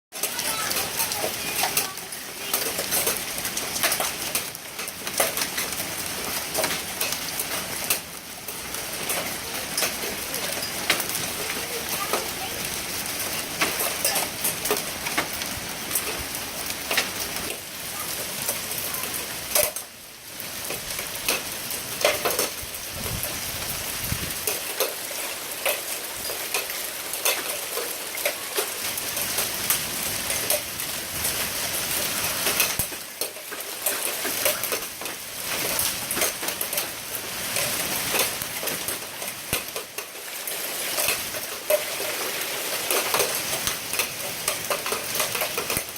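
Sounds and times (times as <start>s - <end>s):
hailstones clattering on hard surfaces: 0.1s - 45.9s
rain-like hiss: 0.2s - 45.9s.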